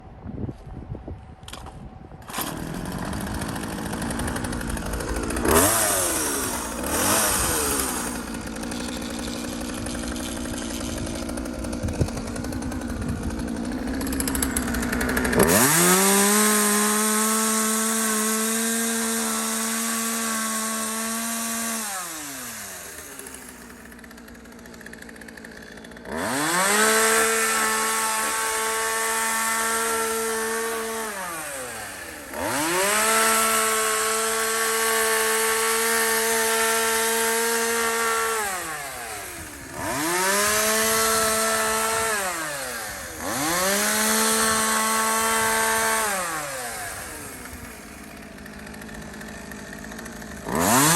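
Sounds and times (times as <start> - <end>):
brush-cutter engine revving: 1.5 - 50.9.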